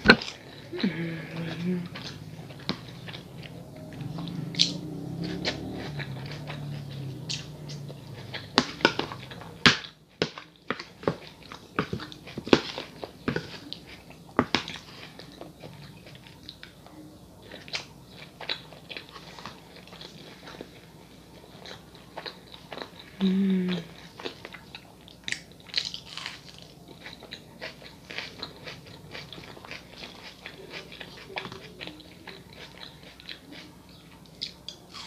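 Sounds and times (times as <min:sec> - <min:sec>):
mouth chewing food: 0:00.0 - 0:35.0.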